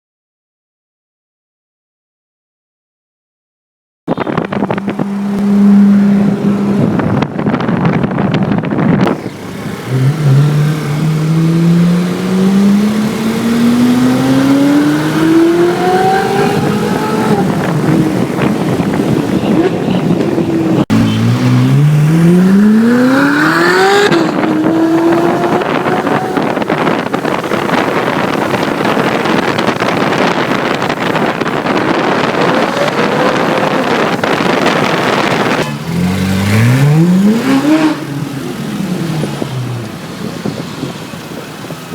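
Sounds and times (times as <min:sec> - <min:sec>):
wind buffeting microphone: 0:04.1 - 0:41.9
sports car engine accelerating: 0:04.4 - 0:08.3, 0:09.0 - 0:41.9.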